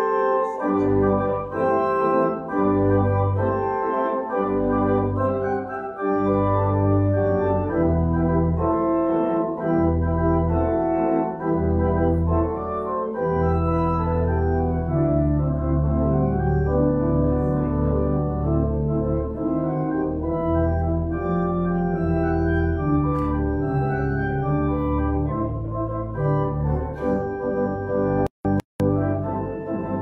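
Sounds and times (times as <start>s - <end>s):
church organ chords: 0.0s - 30.0s.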